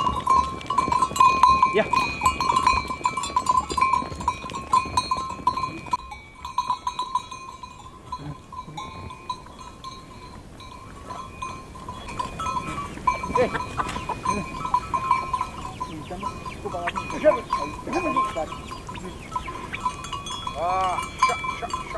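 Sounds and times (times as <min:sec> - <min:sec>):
animal bells jingling: 0:00.0 - 0:21.9.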